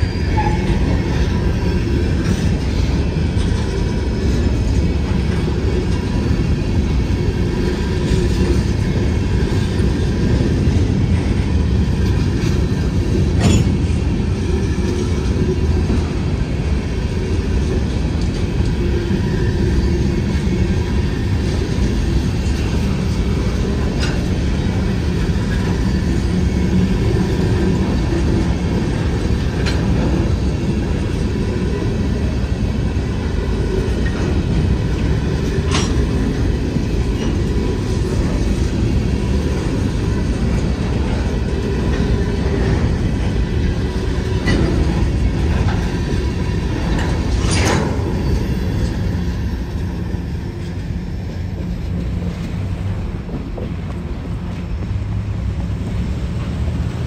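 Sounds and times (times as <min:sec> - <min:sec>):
freight train wheels rumbling on rail: 0:00.0 - 0:57.0.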